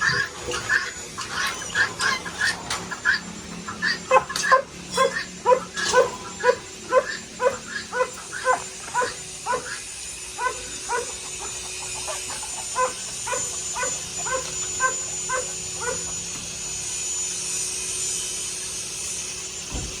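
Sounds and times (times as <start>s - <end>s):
dogs yipping and barking: 0.0s - 16.4s
steady background hum: 0.0s - 20.0s.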